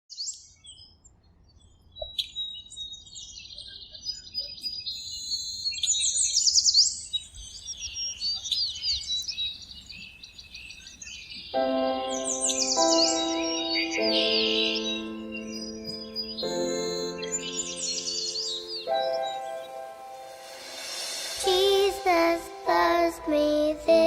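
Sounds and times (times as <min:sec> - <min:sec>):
birds chirping and singing: 0:02.0 - 0:24.0.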